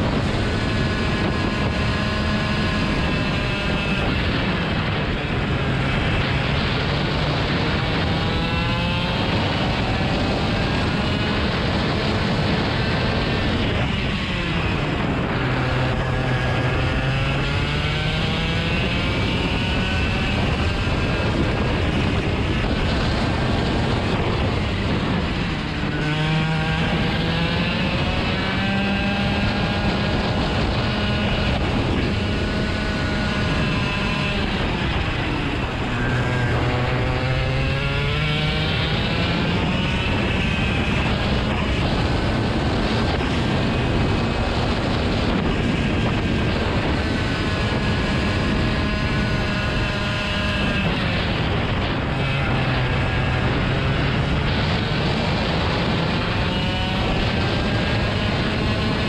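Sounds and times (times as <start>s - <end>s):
engine running with sliding pitch: 0.0s - 59.0s.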